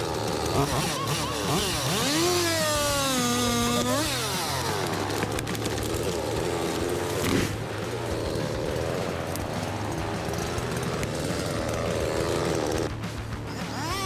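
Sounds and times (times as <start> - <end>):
chainsaw cutting tree trunk: 0.0 - 13.2.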